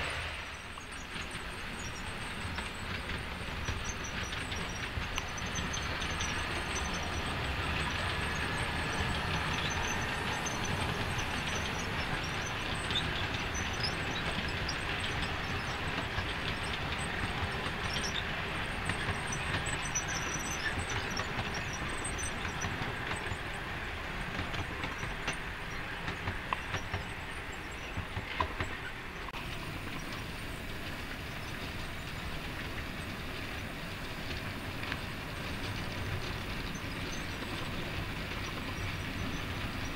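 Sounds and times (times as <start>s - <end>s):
model train whirring: 0.0s - 39.9s
wheels clicking over rail joints: 0.1s - 39.9s.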